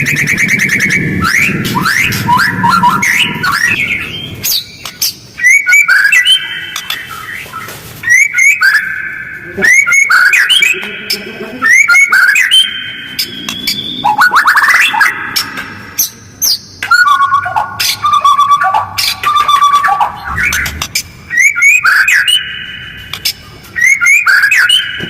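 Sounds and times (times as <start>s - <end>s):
bird singing whistled phrases: 0.0s - 25.0s.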